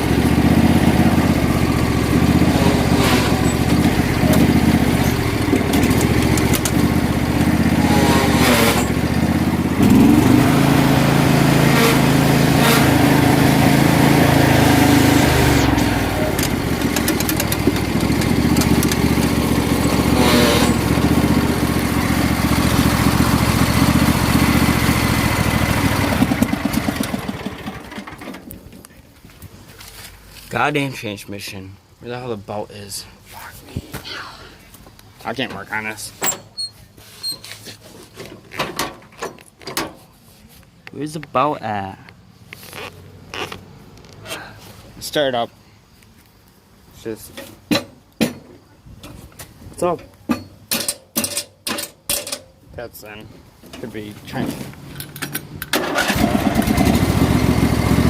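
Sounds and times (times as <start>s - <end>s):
riding lawn mower engine: 0.0s - 30.7s, 35.2s - 44.9s, 50.7s - 58.0s.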